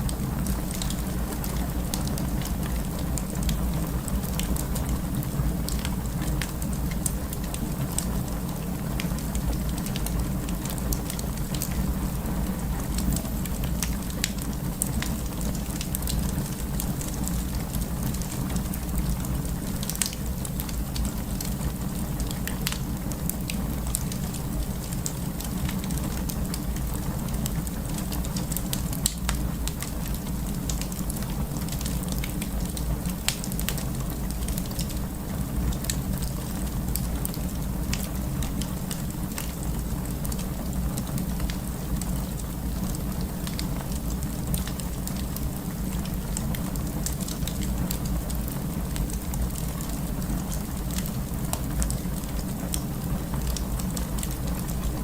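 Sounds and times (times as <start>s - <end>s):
fire low rumble: 0.0s - 55.0s
firewood crackling and popping: 0.0s - 55.0s.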